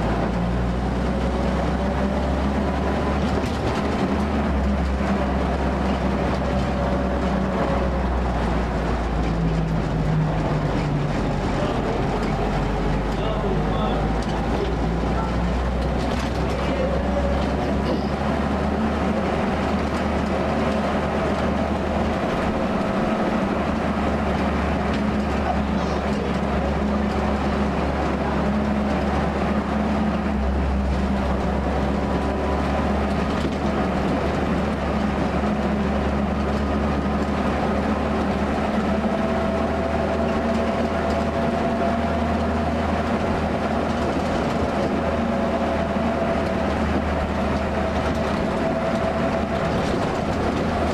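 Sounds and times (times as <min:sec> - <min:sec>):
road noise: 0:00.0 - 0:50.9
vehicle engine droning: 0:00.0 - 0:50.9.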